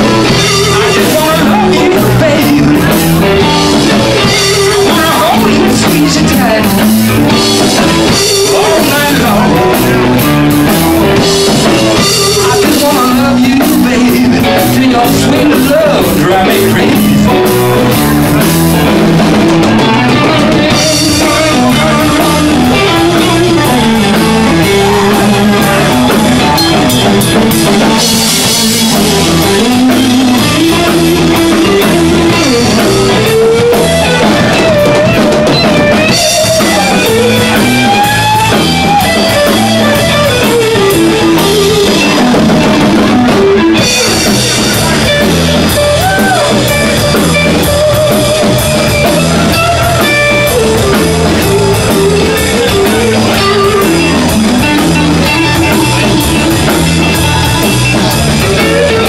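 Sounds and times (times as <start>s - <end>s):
drum kit beat: 0.0s - 59.0s
electric guitar with bent notes: 0.0s - 59.0s.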